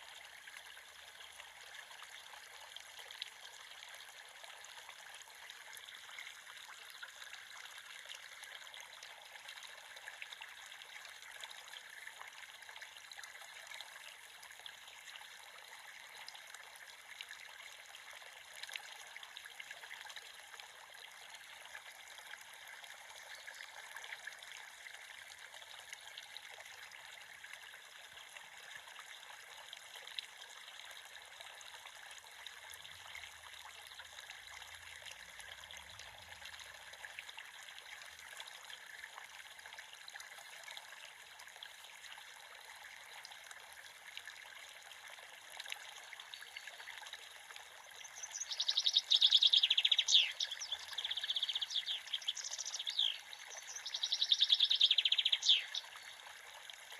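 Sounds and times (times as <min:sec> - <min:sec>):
creek water trickling: 0:00.0 - 0:56.9.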